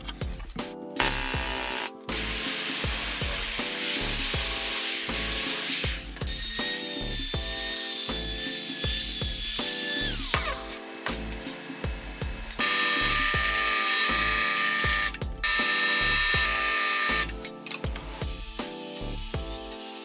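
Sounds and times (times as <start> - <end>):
background music with steady beat: 0.0 - 20.0
electric drill whining: 1.0 - 20.0
jigsaw cutting steel: 1.0 - 20.0.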